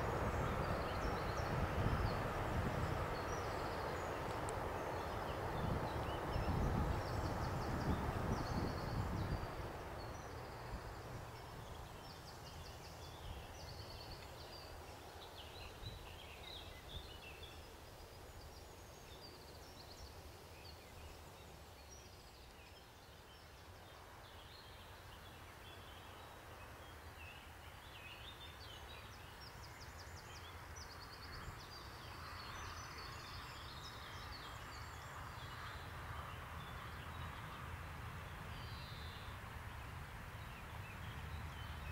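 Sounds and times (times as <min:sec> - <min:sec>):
small birds chirping and trilling: 0:00.0 - 0:35.8.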